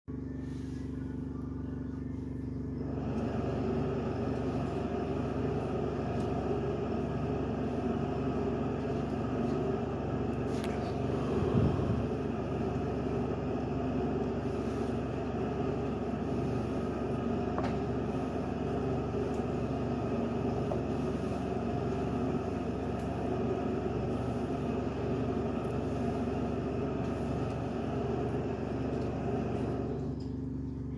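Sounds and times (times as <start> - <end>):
steady mechanical hum: 0.1 - 30.9.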